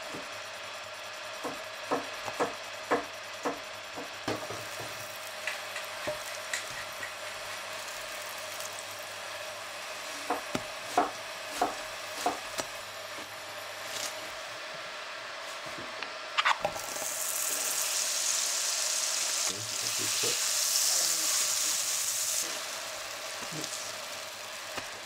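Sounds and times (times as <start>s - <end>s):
butter sizzling in a frying pan: 2.0s - 15.6s, 16.2s - 25.0s.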